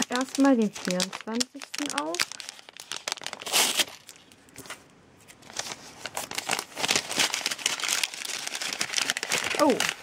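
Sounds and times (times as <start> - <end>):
paper bag crinkling: 0.0 - 10.0.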